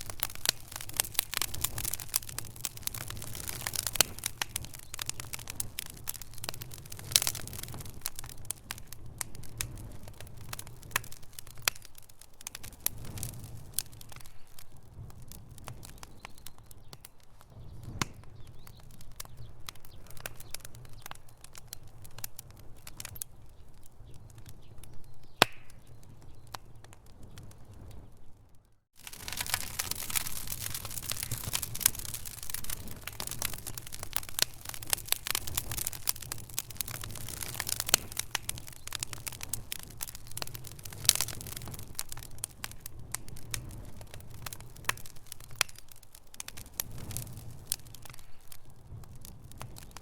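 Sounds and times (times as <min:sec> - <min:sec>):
low rumble of flames: 0:00.0 - 0:50.0
wood fire crackling and popping: 0:00.0 - 0:50.0.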